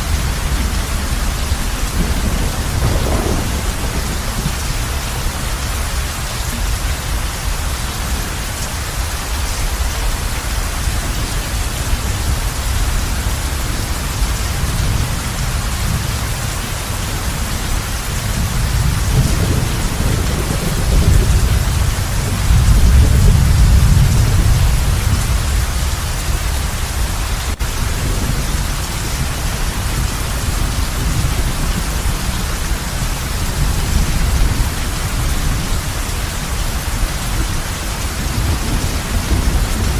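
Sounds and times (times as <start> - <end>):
heavy rain drumming on a roof: 0.0 - 39.9
thunder rumbling: 0.0 - 39.9.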